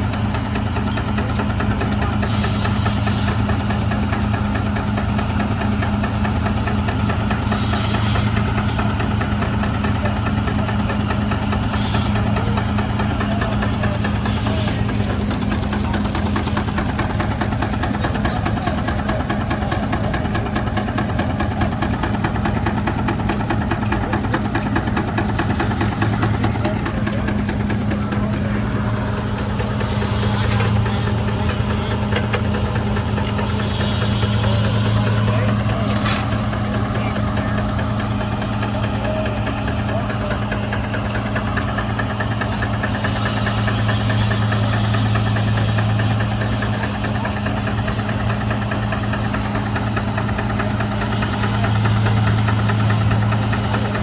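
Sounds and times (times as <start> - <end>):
engine running steadily: 0.0 - 54.0
fast regular ticking: 9.0 - 54.0.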